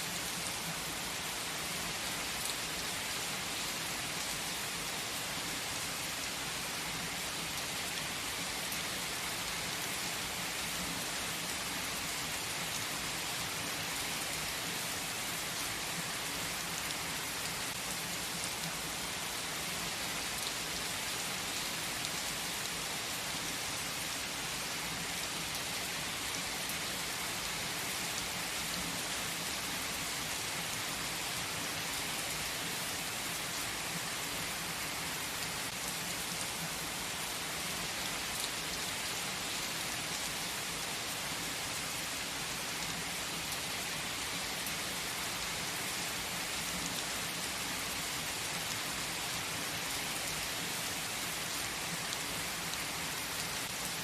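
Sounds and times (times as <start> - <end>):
rain drumming on surfaces: 0.0 - 54.0.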